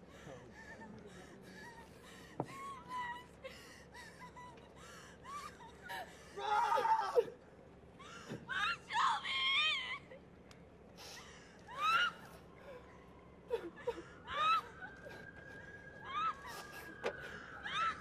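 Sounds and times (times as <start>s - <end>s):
woman crying and sobbing: 0.0s - 7.4s, 11.0s - 18.0s.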